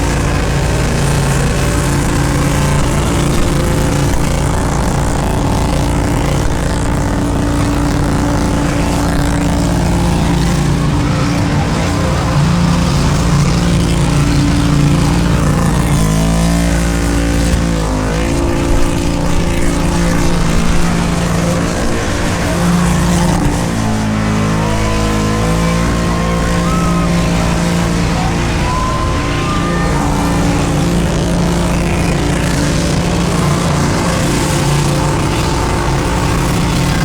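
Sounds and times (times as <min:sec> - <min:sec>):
engine revving high: 0:00.0 - 0:37.0.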